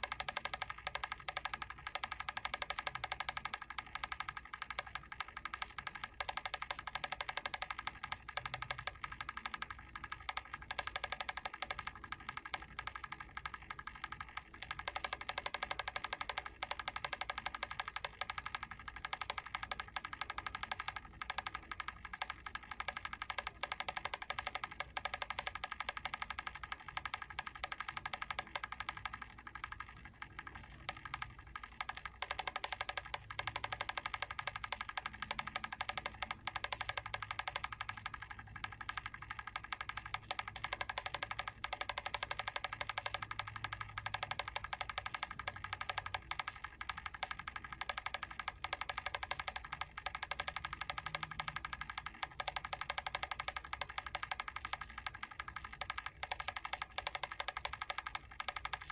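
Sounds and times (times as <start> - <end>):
clockwork timer ticking: 0.0 - 58.9.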